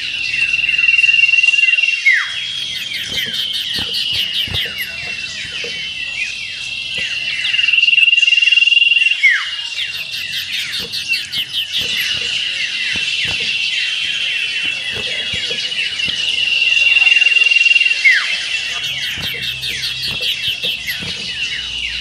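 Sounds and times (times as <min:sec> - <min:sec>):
bird singing shrill trilling song: 0:00.0 - 0:22.0.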